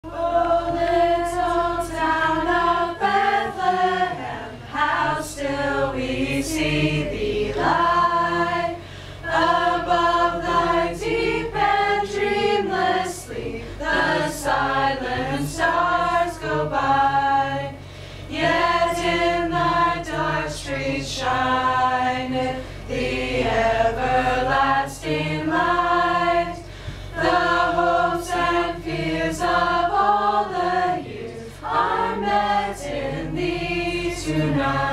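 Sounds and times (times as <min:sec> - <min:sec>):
group singing a carol unaccompanied: 0:00.0 - 0:34.9.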